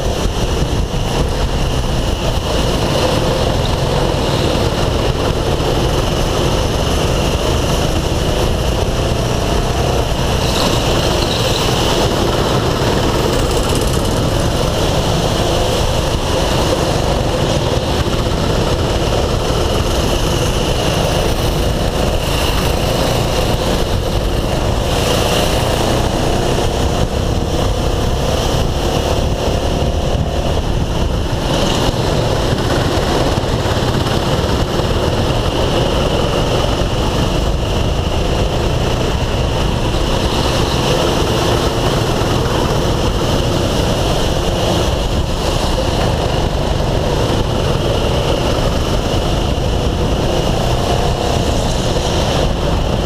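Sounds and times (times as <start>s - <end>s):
go-kart engine revving: 0.0s - 53.0s.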